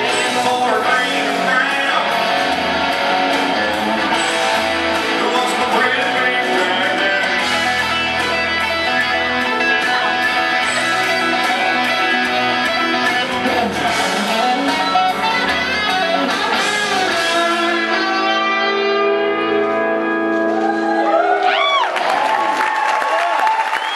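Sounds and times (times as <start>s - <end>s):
electric guitar through amplifier: 0.0s - 21.4s.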